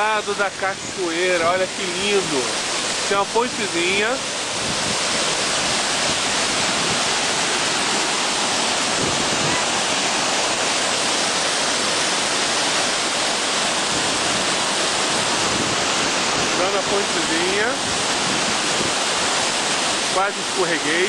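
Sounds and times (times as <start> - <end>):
waterfall rushing into pool: 0.0 - 21.0.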